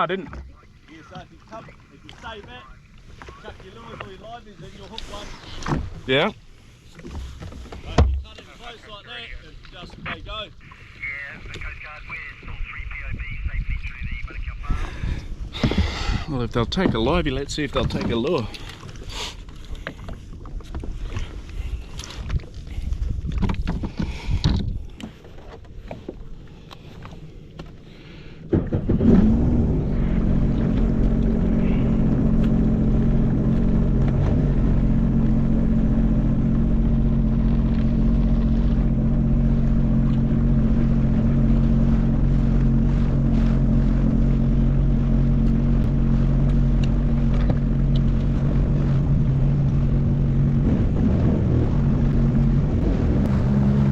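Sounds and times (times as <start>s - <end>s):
jet ski engine running: 0.0s - 53.9s.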